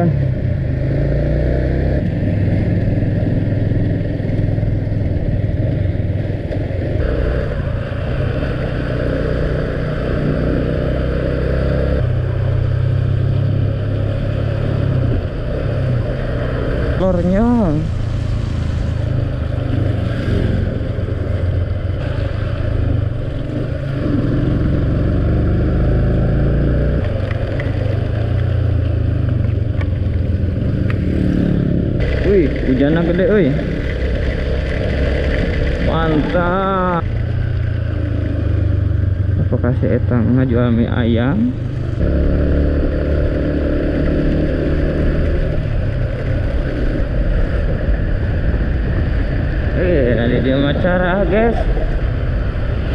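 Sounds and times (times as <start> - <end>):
road and wind noise: 0.0 - 52.9
vehicle engine rumble: 0.0 - 52.9.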